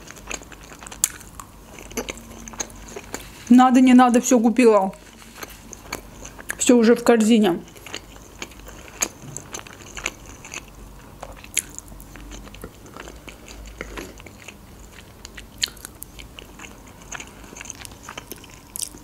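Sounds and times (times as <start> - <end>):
wet chewing: 0.0 - 3.5, 4.9 - 6.8, 7.4 - 19.0.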